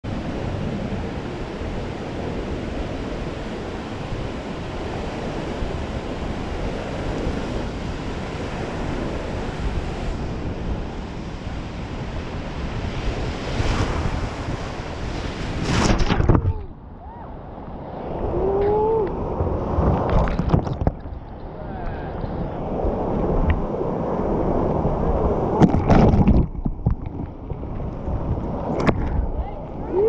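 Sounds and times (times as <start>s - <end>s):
wind buffeting microphone: 0.1s - 30.0s.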